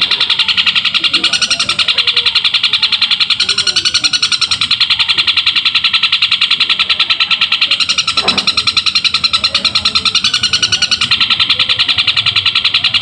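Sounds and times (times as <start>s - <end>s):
bird chattering high notes: 0.0s - 13.0s.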